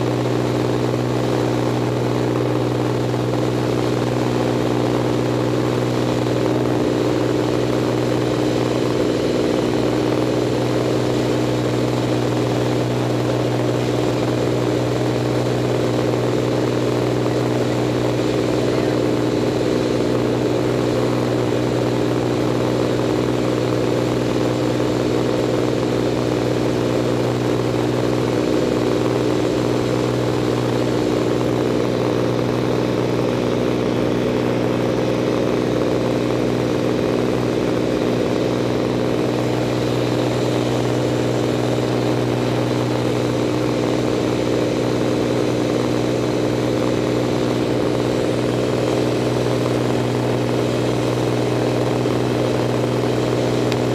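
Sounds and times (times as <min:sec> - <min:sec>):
propeller aircraft engine: 0:00.0 - 0:53.9.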